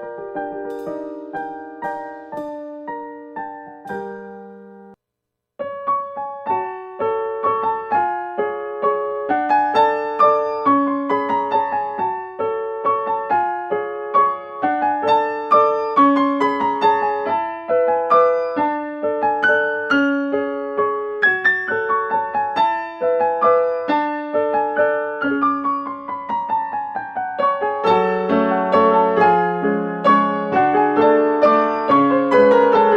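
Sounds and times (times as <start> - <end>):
gentle electric piano melody: 0.0 - 5.0, 5.6 - 32.9.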